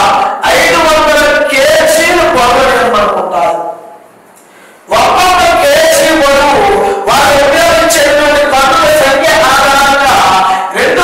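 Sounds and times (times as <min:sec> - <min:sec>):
man chanting: 0:00.0 - 0:04.0, 0:04.9 - 0:11.0.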